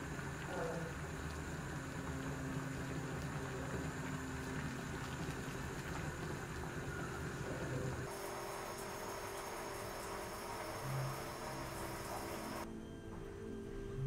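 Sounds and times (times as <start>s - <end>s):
water boiling and bubbling: 0.0s - 12.7s.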